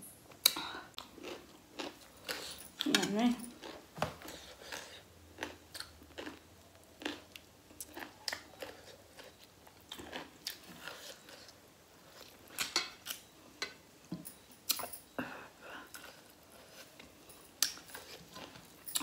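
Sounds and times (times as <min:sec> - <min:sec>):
person chewing with crunches: 0:00.3 - 0:13.3, 0:15.5 - 0:19.0.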